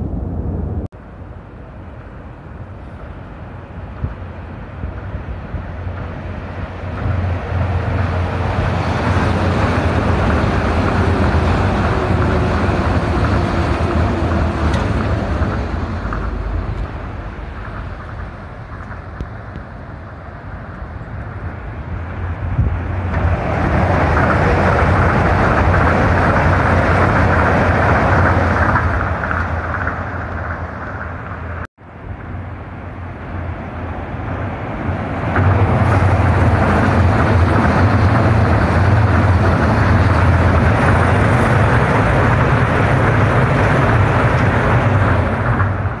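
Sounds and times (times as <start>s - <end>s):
monorail train passing: 0.0s - 46.0s.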